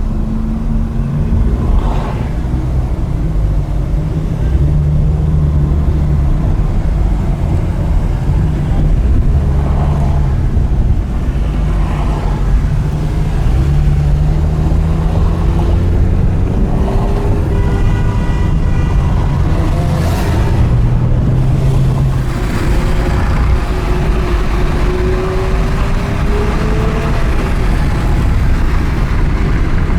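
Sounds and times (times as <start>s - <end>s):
deep engine drone: 0.0s - 29.9s.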